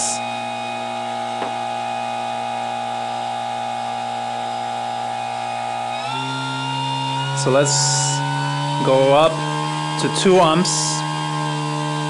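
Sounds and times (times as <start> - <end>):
electrical hum: 0.0 - 12.0
electrical whine: 0.0 - 12.0.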